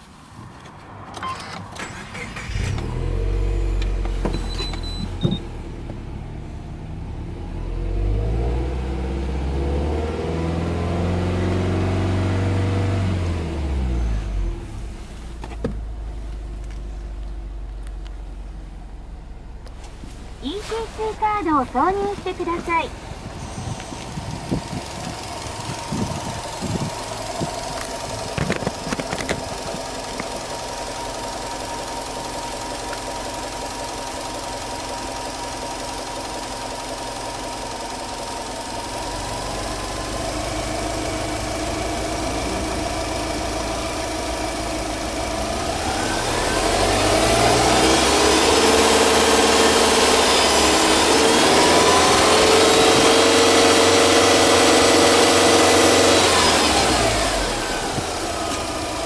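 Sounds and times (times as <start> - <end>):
car engine idling: 1.8 - 59.0.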